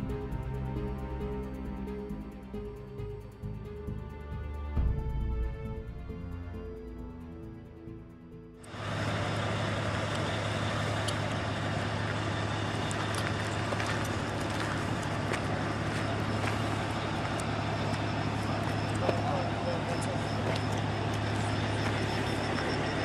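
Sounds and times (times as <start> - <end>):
mechanical drone with low hum: 0.0 - 23.0.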